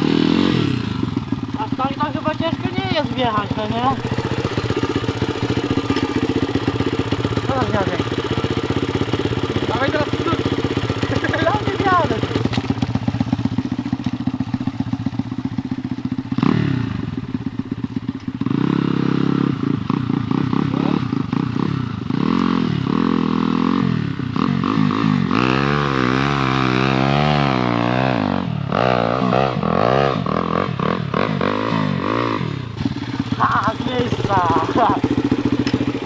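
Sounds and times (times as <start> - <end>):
motorbike engine revving: 0.0 - 36.0.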